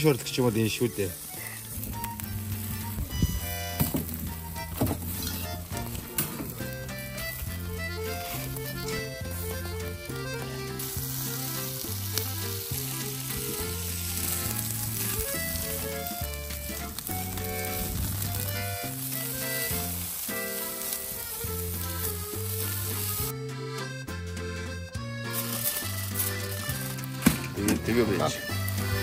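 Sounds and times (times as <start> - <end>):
skewered meat sizzling: 0.0 - 23.3, 25.0 - 29.0
music with stepping bass line: 1.2 - 29.0.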